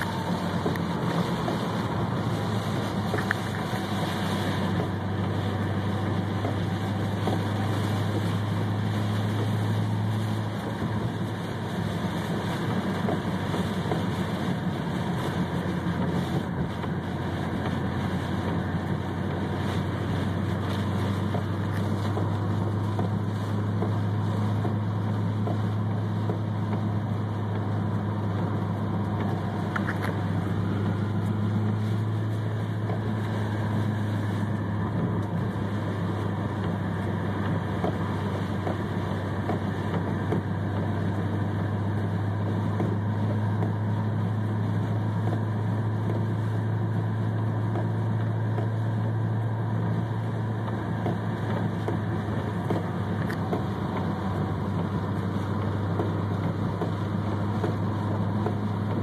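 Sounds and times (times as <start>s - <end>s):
engine and road drone: 0.0s - 59.0s
heavy rain hissing on car: 0.0s - 59.0s.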